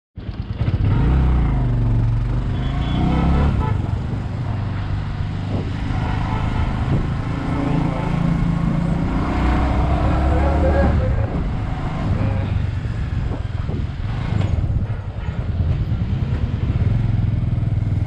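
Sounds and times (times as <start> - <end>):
motorcycle engine running: 0.2 - 18.0.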